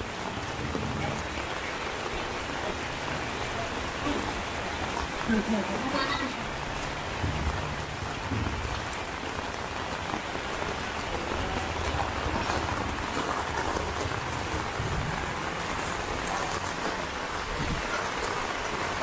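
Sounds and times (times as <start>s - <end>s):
heavy rain on a wet street: 0.0s - 19.0s.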